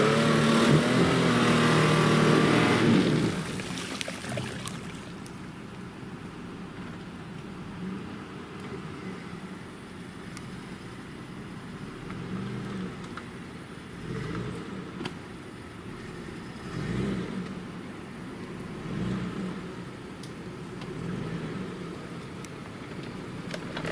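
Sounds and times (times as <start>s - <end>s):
suv engine under load: 0.0s - 23.9s.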